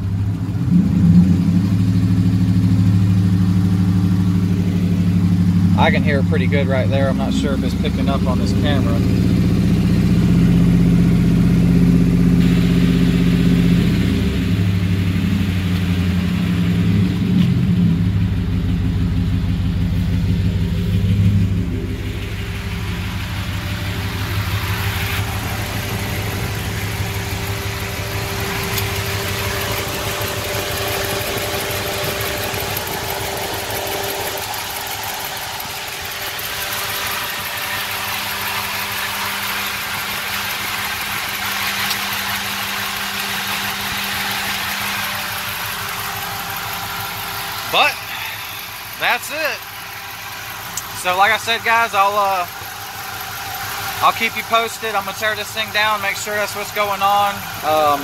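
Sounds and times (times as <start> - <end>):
car engine revving and idling: 0.0 - 58.0
engine ticking: 0.0 - 58.0.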